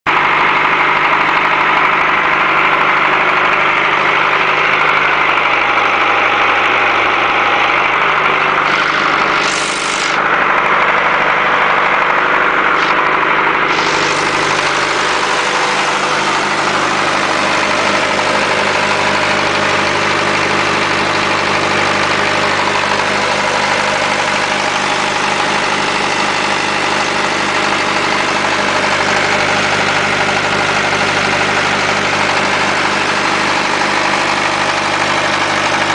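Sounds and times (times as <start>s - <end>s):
diesel generator droning: 0.0s - 35.9s.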